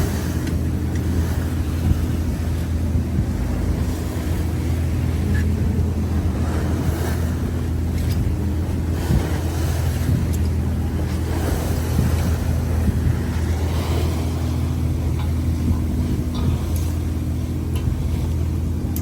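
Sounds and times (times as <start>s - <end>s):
boat engine droning: 0.0s - 19.0s
waves washing against hull: 0.0s - 19.0s
wind on microphone: 0.0s - 19.0s.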